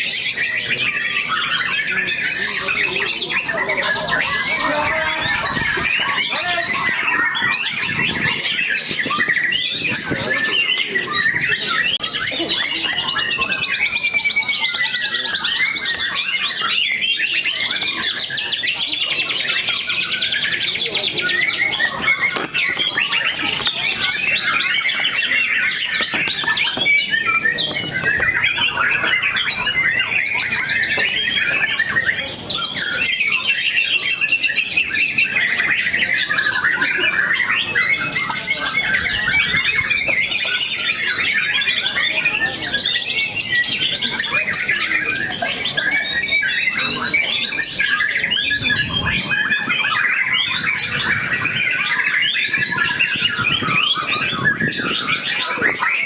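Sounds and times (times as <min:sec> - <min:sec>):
songbirds trilling and whistling: 0:00.0 - 0:56.0.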